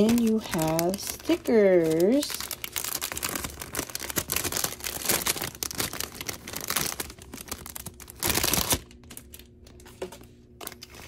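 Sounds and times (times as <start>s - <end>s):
crinkly packaging being handled: 0.0s - 11.0s.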